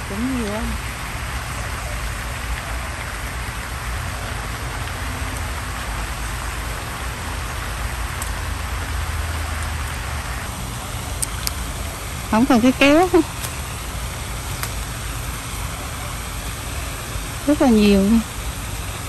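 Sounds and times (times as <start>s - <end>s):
pond fountain spraying water: 0.0s - 19.0s.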